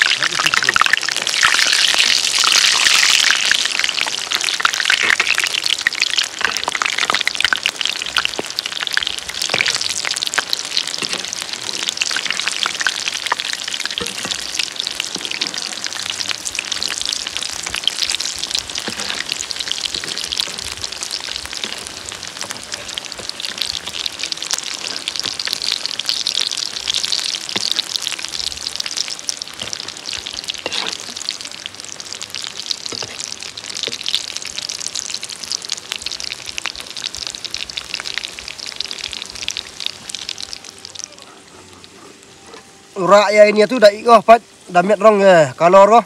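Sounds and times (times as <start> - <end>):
oil popping: 0.0 - 42.7
bread deep-frying in oil: 0.0 - 46.0.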